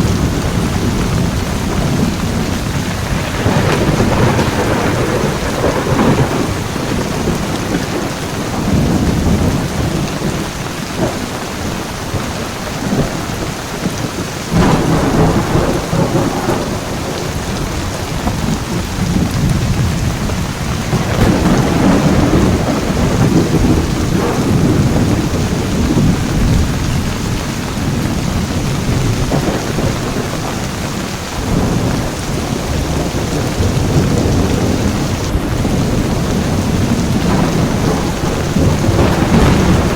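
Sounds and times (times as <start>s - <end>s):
heavy rain falling: 0.0s - 39.9s
rolling thunder: 0.0s - 39.9s
thunderclap: 0.0s - 39.9s.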